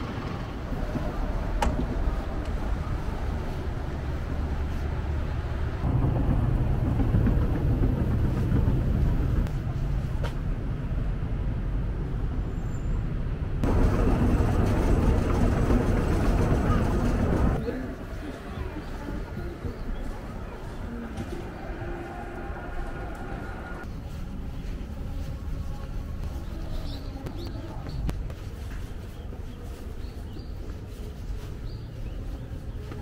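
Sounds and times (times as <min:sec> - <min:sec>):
low rumble of city traffic: 0:00.0 - 0:33.0.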